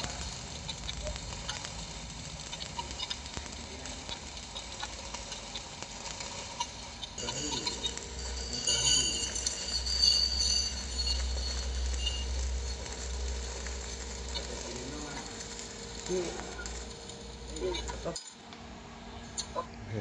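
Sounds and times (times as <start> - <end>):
welding arc crackling and sizzling: 0.0 - 19.6.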